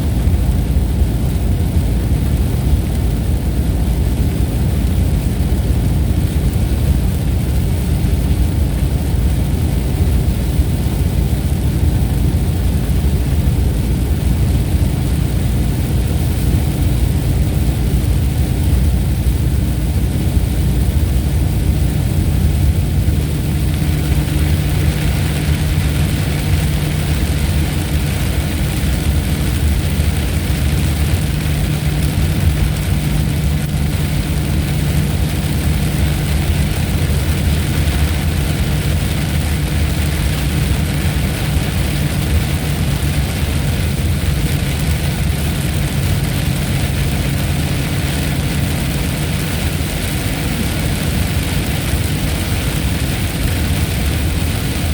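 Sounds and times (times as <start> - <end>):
low thunder rumble: 0.0 - 49.4
rain hiss: 0.0 - 54.9.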